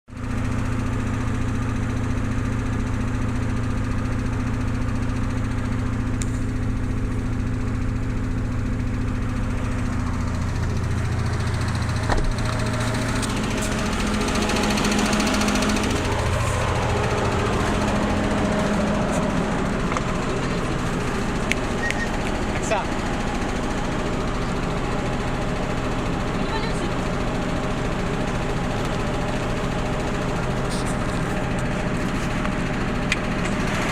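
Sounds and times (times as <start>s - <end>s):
car engine knocking and misfiring: 0.1s - 33.9s.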